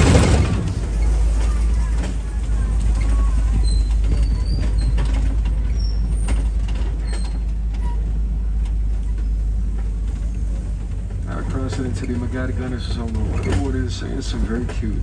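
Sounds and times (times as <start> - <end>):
truck engine and road rumble: 0.0 - 15.0
vehicle body creaks and rattles: 0.0 - 15.0.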